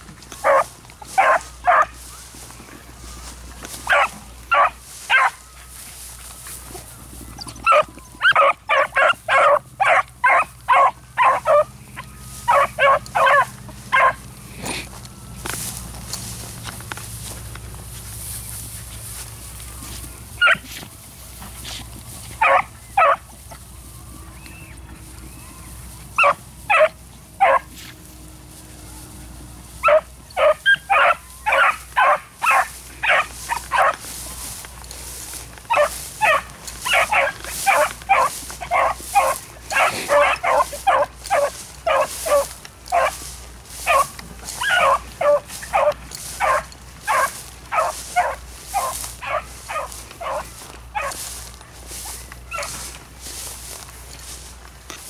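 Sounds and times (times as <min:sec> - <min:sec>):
hounds baying: 0:00.0 - 0:55.0.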